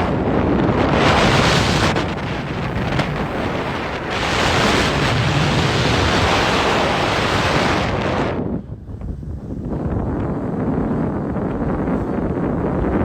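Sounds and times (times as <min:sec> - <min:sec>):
wind blasting microphone: 0:00.0 - 0:13.0.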